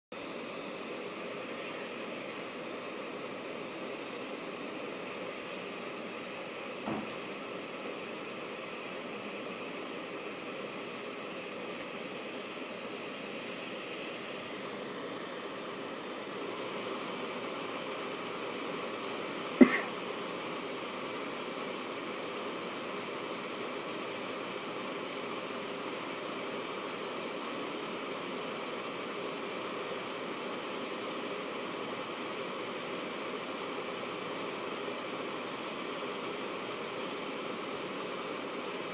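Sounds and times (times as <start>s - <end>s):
computer whirring hiss: 0.1s - 38.9s
faint steady tones: 0.2s - 38.9s.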